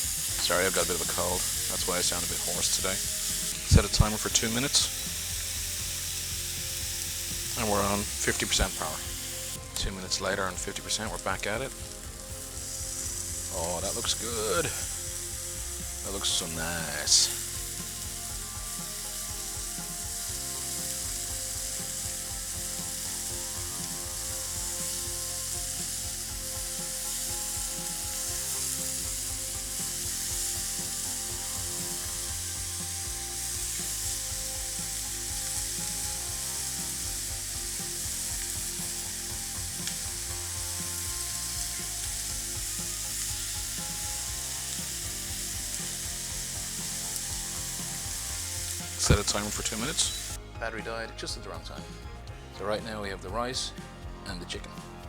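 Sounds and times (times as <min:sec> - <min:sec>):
chicken sizzling in a pan: 0:00.0 - 0:50.4
crackling spits: 0:00.0 - 0:50.4.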